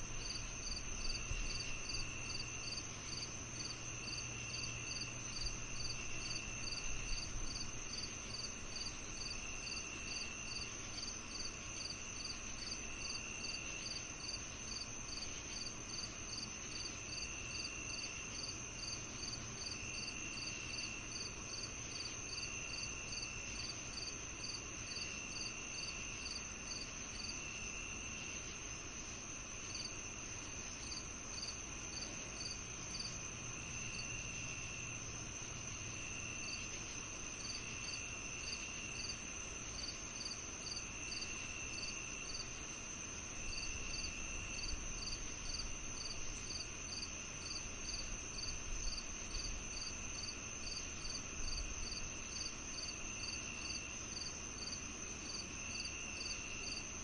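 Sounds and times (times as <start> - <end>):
lower insect trill: 0.0 - 57.0
regular cricket chirp: 0.0 - 57.0
steady high insect trill: 0.0 - 57.0.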